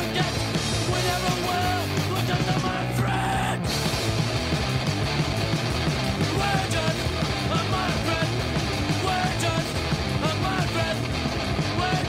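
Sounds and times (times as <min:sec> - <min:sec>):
punk rock music: 0:00.0 - 0:12.0.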